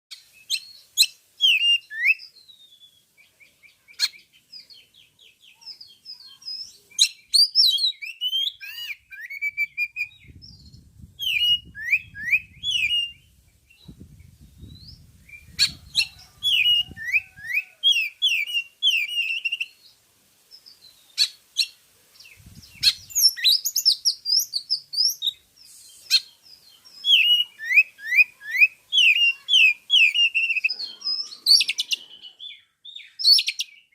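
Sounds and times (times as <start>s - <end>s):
bird singing whistled phrases: 0.4s - 3.0s, 5.5s - 19.8s, 22.6s - 33.9s.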